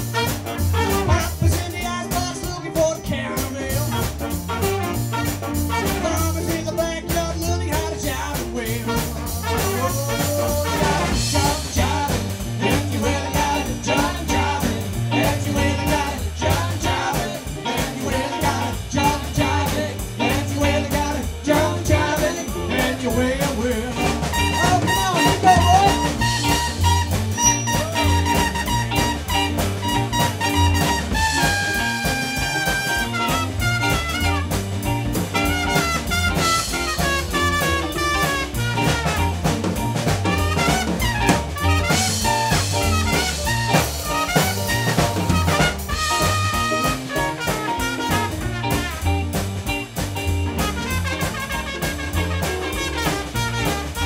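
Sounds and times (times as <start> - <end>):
swing band playing: 0.0 - 54.0.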